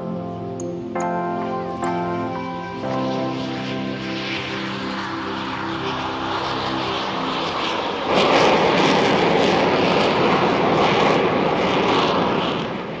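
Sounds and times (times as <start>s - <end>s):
jet engines taking off: 0.0s - 13.0s.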